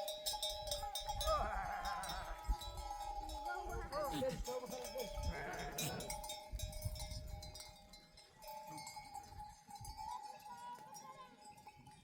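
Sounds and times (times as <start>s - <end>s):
sheep bells clinking: 0.0s - 12.0s.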